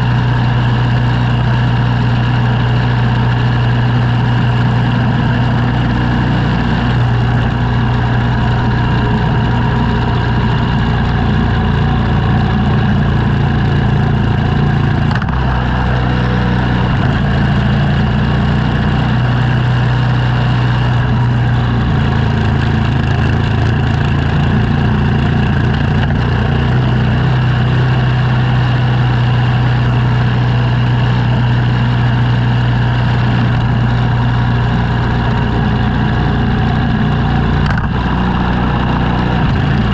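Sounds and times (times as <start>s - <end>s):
snow-clearing machine engine: 0.0s - 39.9s.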